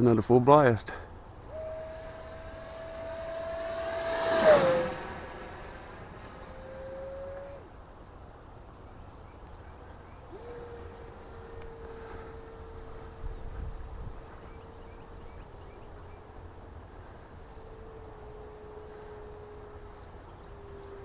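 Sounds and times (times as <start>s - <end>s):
electric jet fan whine: 1.2s - 7.7s, 9.7s - 21.0s.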